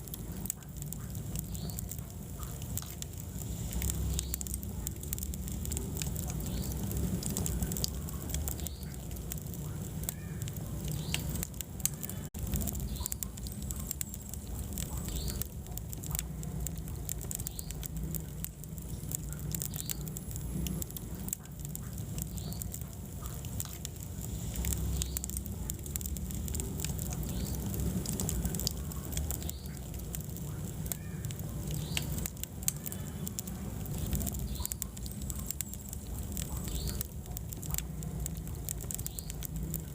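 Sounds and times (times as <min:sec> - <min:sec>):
fire flames burning: 0:00.0 - 0:39.9
wood crackling and popping: 0:00.0 - 0:39.9.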